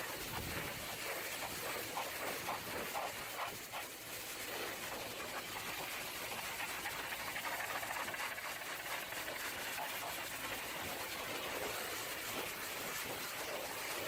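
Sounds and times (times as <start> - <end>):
water jet spraying: 0.0 - 14.0.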